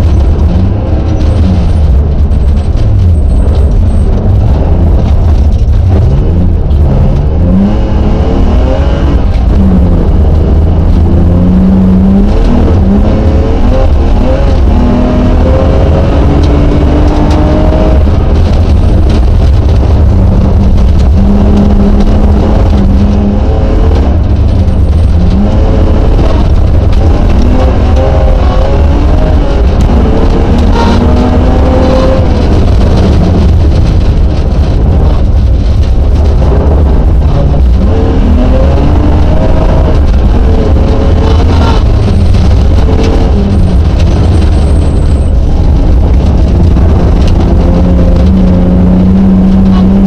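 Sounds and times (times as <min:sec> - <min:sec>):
heavy low rumble: 0:00.0 - 0:50.0
rally car engine revving: 0:00.0 - 0:50.0.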